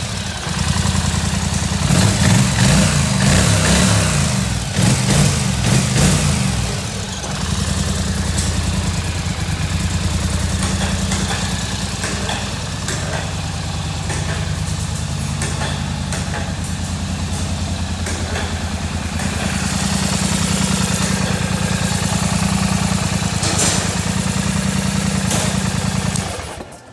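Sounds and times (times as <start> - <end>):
atv engine idling: 0.0 - 26.9
knocks and rattles: 4.8 - 26.9.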